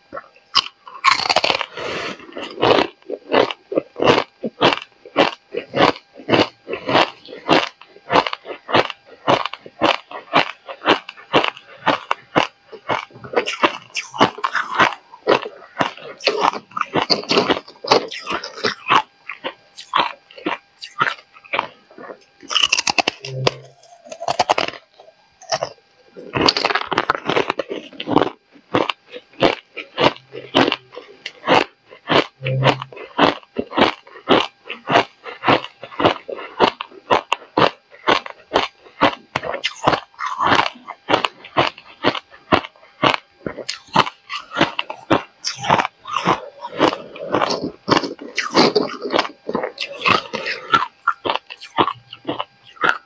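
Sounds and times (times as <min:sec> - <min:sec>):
ice crunching between teeth: 0:00.1 - 0:53.0.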